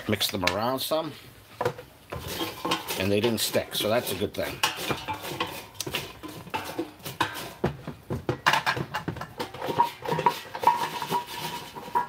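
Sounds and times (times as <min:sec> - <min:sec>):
wooden spatula scraping a basket: 0:01.0 - 0:12.0.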